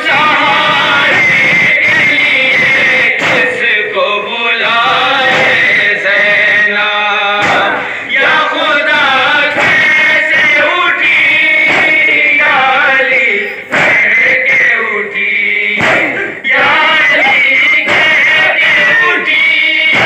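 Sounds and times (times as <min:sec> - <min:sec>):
sharp beats: 0:00.0 - 0:03.9, 0:04.9 - 0:06.0, 0:07.4 - 0:14.8, 0:15.6 - 0:20.0
men chanting a lament in chorus: 0:00.0 - 0:20.0.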